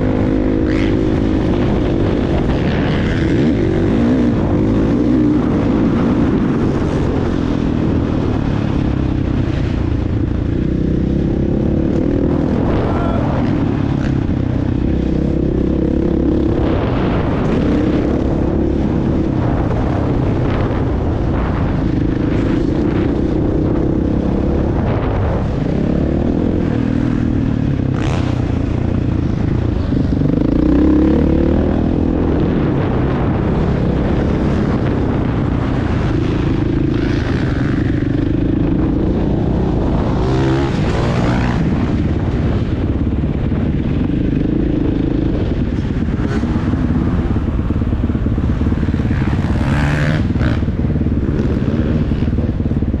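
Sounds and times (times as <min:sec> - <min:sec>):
motocross bike engine revving: 0:00.0 - 0:42.8, 0:43.4 - 0:53.0.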